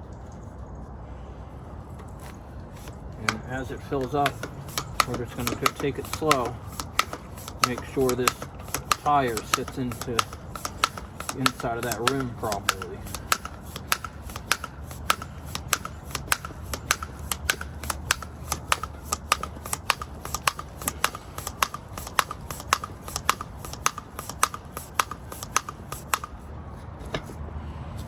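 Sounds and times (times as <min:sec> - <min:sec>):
tire pump clicking: 0:01.9 - 0:27.5.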